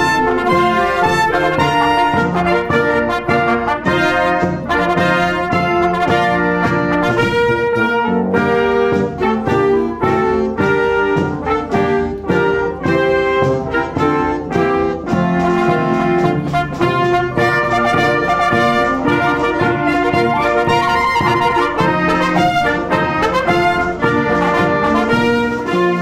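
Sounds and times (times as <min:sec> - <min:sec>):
wind band playing: 0:00.0 - 0:26.0.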